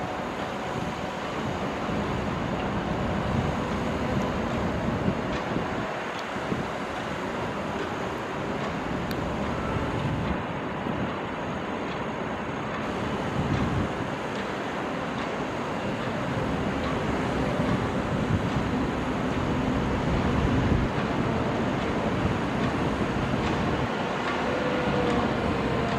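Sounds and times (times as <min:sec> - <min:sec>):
heavy diesel machinery running: 0:00.0 - 0:25.9.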